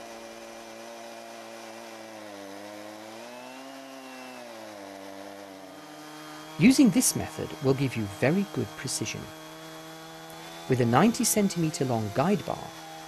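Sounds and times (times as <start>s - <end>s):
chainsaw ripping a log: 0.0s - 13.0s.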